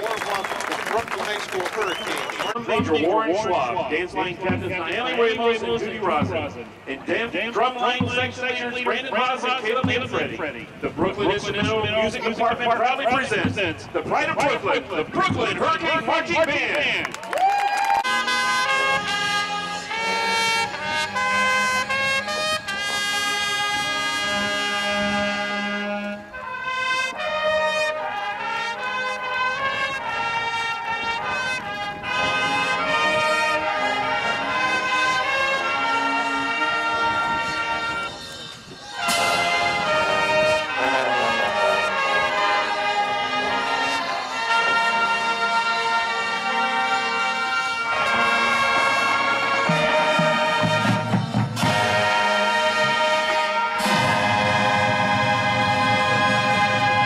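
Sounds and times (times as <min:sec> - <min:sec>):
marching band brass chords: 0:00.0 - 0:57.0.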